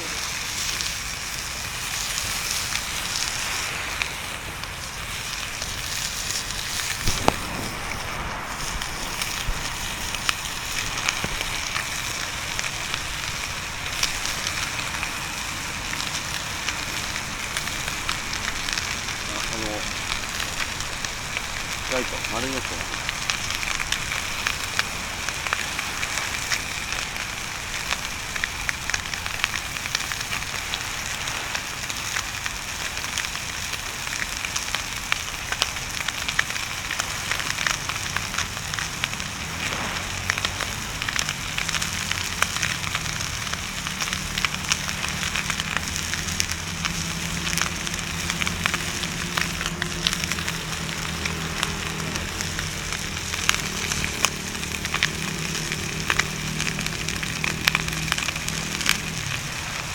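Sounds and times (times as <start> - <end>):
bonfire crackling and popping: 0.0 - 59.9
bonfire hiss: 0.0 - 59.9.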